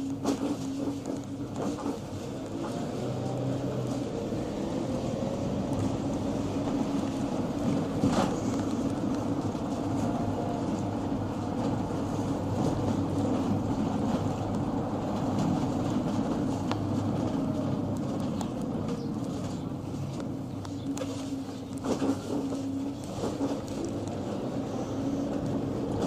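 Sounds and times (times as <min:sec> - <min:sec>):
engine and road drone: 0:00.0 - 0:26.0.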